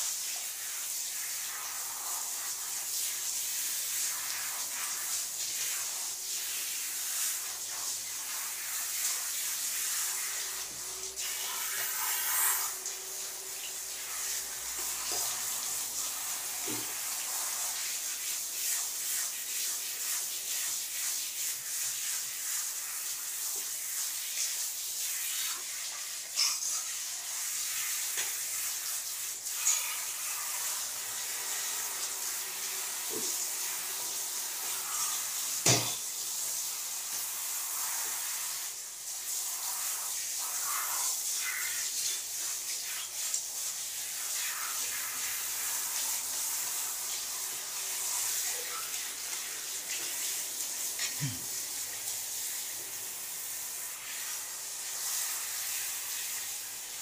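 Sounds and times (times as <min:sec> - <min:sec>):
shower head spraying water: 0:00.0 - 0:57.0.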